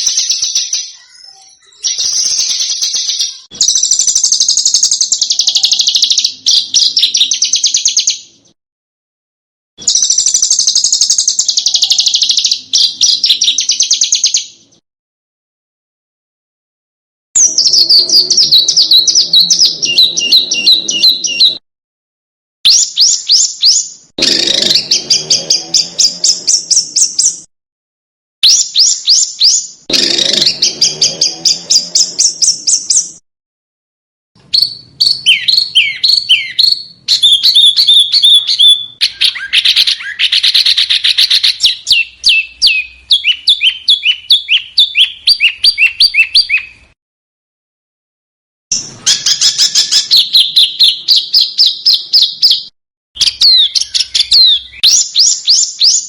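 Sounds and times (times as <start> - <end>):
songbirds singing high notes: 0.0 - 8.6, 9.8 - 14.8, 17.4 - 21.6, 22.7 - 27.5, 28.4 - 33.2, 34.4 - 47.0, 48.7 - 56.0.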